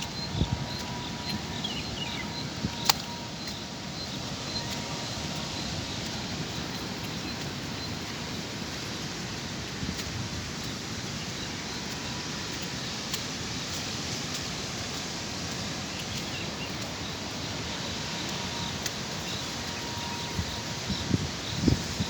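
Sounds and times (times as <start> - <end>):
raindrops ticking: 0.0 - 21.5
heavy rain hissing: 0.0 - 22.0.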